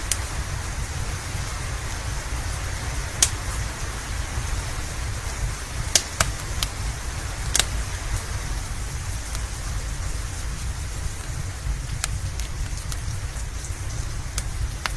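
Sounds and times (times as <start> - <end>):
low rumble: 0.0 - 14.9
steady rain: 0.0 - 14.9
wood fire crackling and popping: 0.0 - 14.9.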